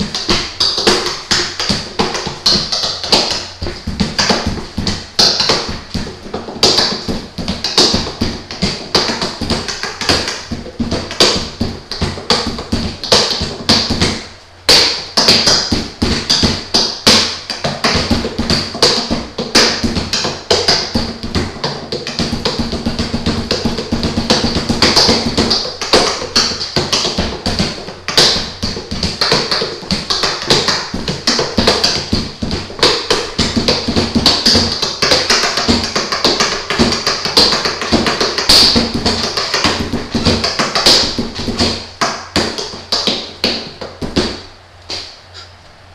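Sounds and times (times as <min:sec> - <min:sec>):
fingers drumming on armrests: 0:00.0 - 0:45.1.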